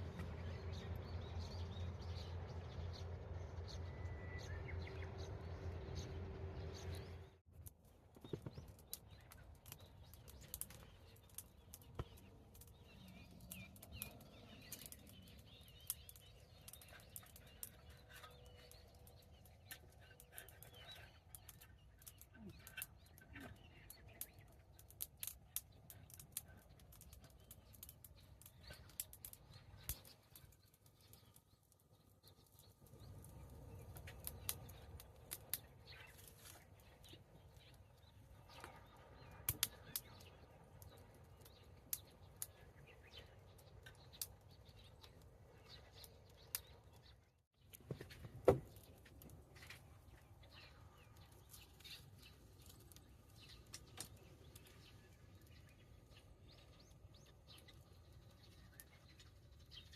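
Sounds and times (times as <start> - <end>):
campfire crackling: 6.2 - 59.9
burning wood popping: 7.5 - 59.9.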